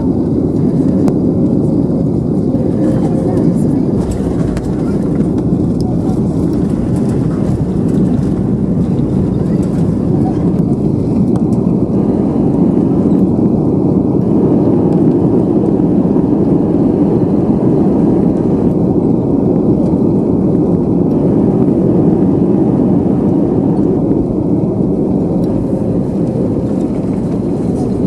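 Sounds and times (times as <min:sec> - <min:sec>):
engine and airflow rush: 0:00.0 - 0:28.0
wheels rumbling on runway: 0:00.0 - 0:28.0.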